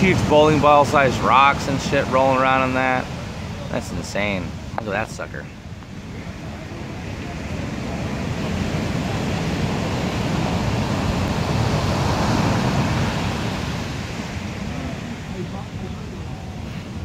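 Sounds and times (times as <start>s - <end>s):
wave breaking on shore: 0.0s - 17.0s.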